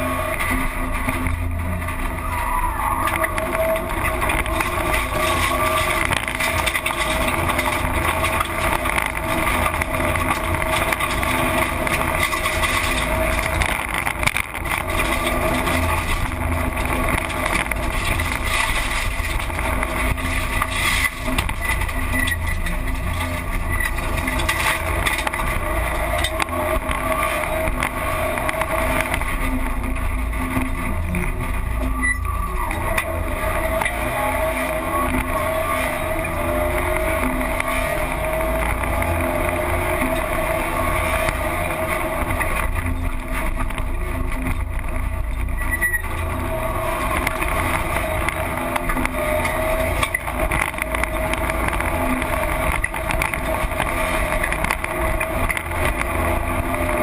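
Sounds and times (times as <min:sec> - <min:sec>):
loud car engine: 0:00.0 - 0:57.0
road noise: 0:00.0 - 0:57.0.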